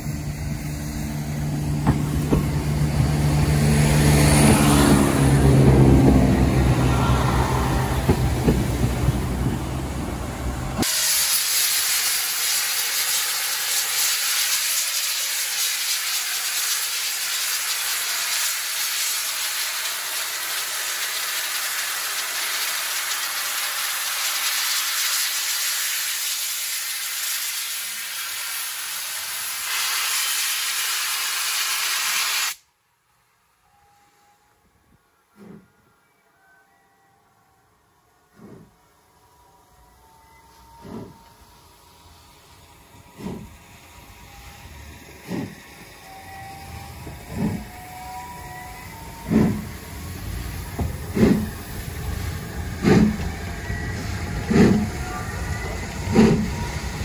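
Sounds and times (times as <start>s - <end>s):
diesel train engines running: 0.0s - 32.2s, 33.5s - 57.0s
loud steam hiss: 0.0s - 32.6s, 40.8s - 57.0s.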